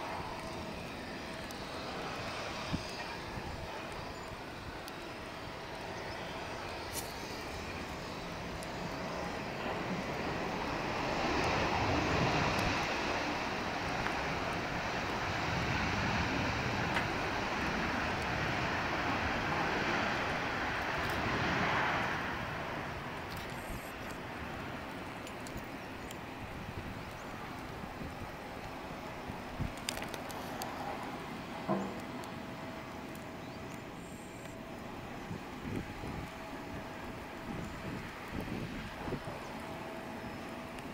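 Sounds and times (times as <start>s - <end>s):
jet aircraft roar: 0.0s - 40.9s.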